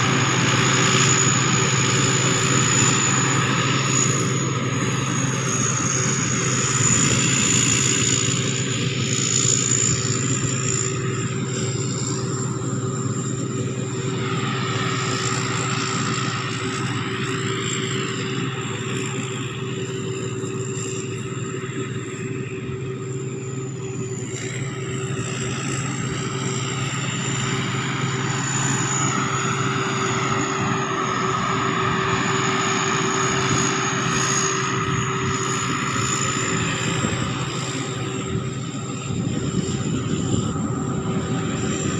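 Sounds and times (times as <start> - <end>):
combine harvester engine droning: 0.0 - 41.9.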